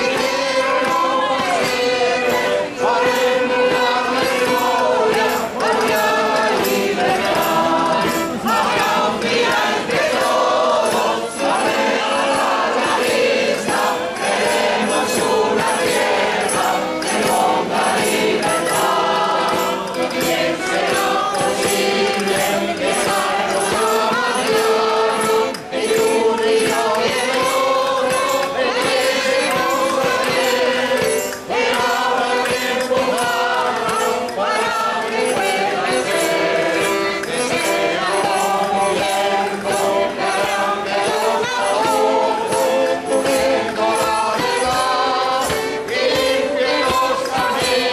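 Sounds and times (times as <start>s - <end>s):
choir singing: 0.0s - 47.9s.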